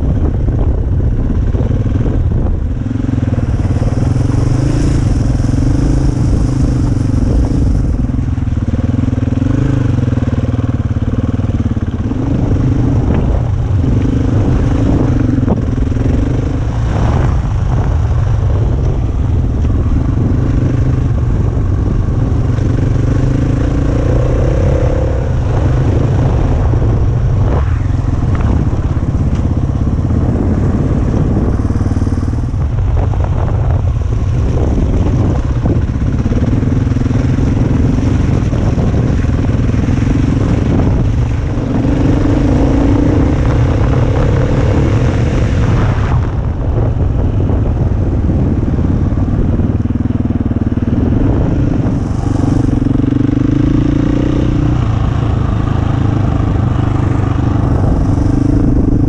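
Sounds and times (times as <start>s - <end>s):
motorcycle engine revving: 0.0s - 59.0s
wind rumble on microphone: 0.0s - 59.0s.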